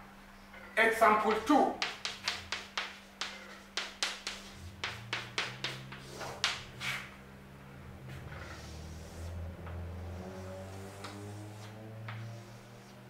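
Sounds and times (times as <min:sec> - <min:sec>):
chalk scraping on a chalkboard: 0:01.2 - 0:07.2, 0:08.1 - 0:13.0.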